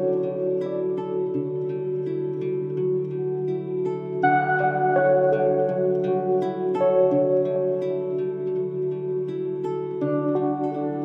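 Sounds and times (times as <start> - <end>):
plucked notes: 0.0 - 11.0.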